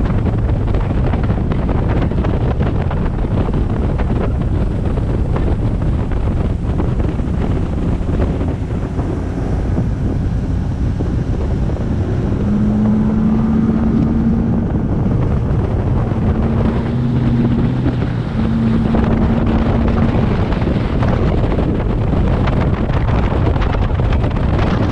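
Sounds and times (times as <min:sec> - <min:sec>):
outboard motor drone: 0:00.0 - 0:24.9
water rushing: 0:00.0 - 0:24.9
wind buffeting microphone: 0:00.0 - 0:24.9.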